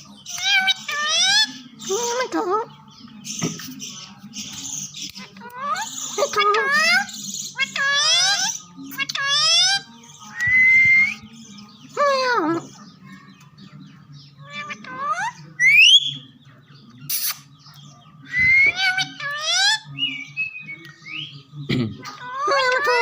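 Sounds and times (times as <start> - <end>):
parrots whistling and calling: 0.0 - 13.2, 14.2 - 16.4, 17.1 - 23.0.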